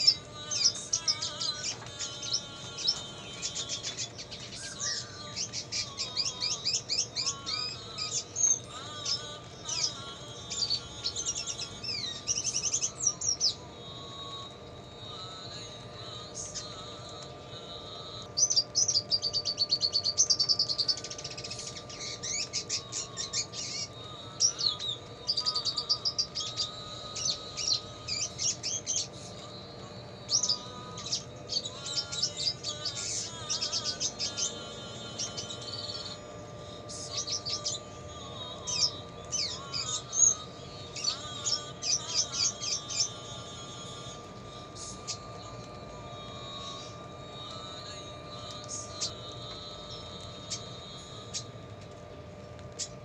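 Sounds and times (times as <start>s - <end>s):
bird singing high chirps and trills: 0.0s - 53.0s.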